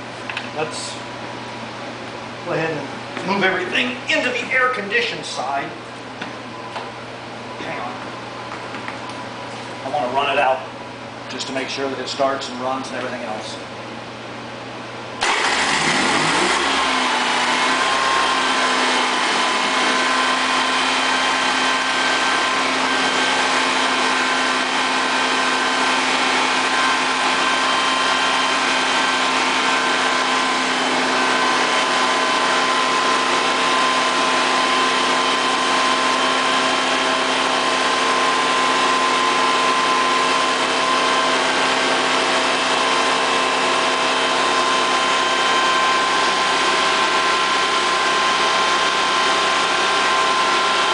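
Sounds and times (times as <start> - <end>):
generator engine starting and running: 0.0 - 50.9.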